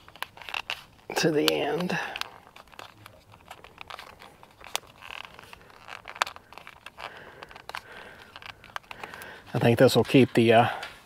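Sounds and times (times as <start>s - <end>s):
wires crinkling: 0.0s - 11.0s.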